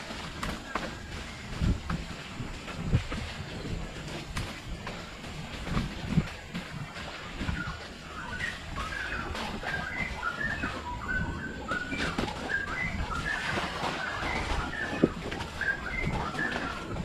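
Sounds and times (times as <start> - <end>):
birds whistling calls: 0.0 - 17.0
mountain bike rumble: 0.0 - 17.0.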